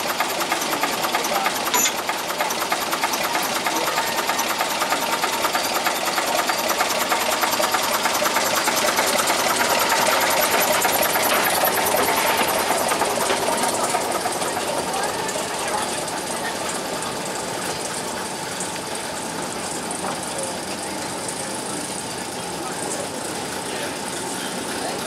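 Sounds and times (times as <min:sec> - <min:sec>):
diesel locomotive engine clattering: 0:00.0 - 0:25.0.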